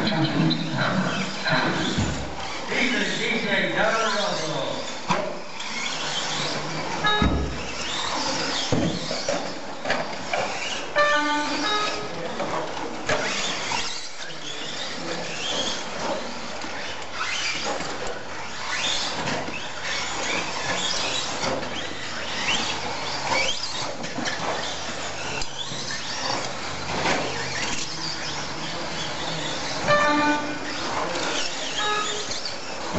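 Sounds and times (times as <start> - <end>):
remote control truck motors whining: 0.0 - 32.9.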